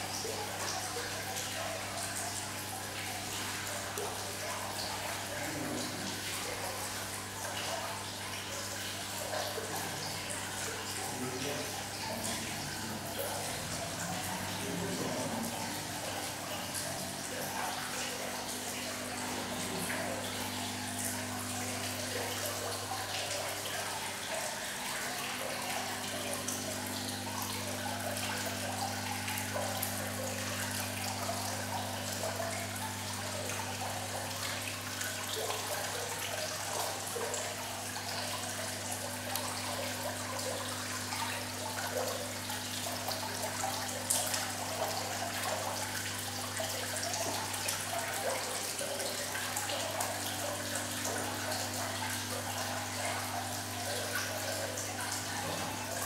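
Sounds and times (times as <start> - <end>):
water trickling into metal trough: 0.0 - 56.0.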